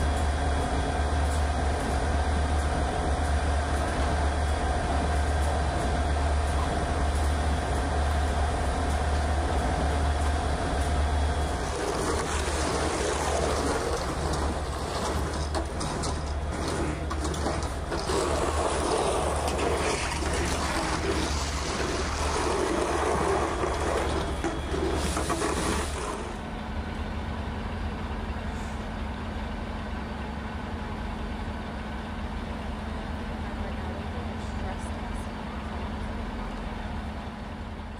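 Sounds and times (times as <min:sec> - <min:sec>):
truck engines rumbling: 0:00.0 - 0:37.9.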